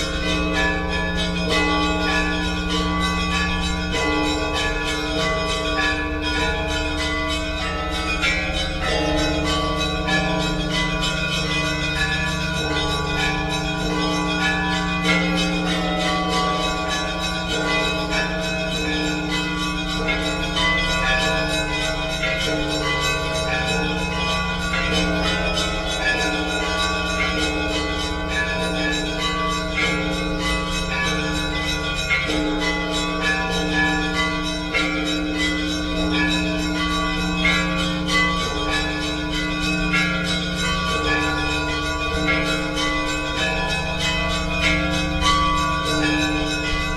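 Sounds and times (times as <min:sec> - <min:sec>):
large bells humming: 0:00.0 - 0:46.9.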